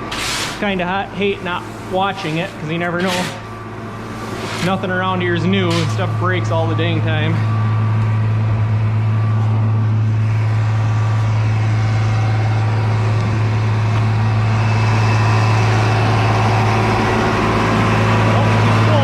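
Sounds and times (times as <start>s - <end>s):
machine drone: 0.0s - 19.0s.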